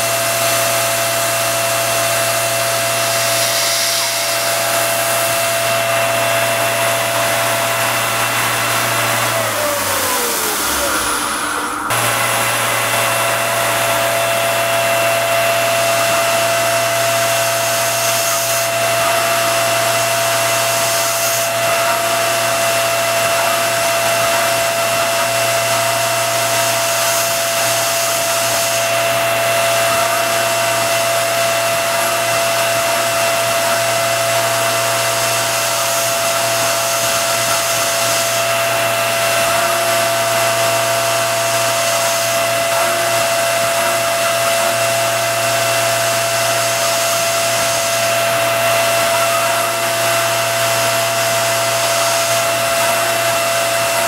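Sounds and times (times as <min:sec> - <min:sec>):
milling machine spindle whine: 0:00.0 - 0:54.0.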